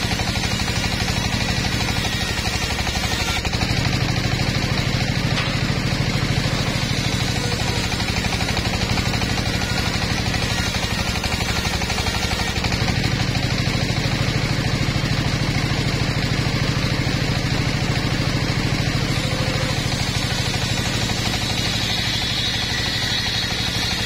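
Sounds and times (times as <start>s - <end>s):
circular saw blade spinning: 0.0s - 24.0s
engine drone: 0.0s - 24.0s.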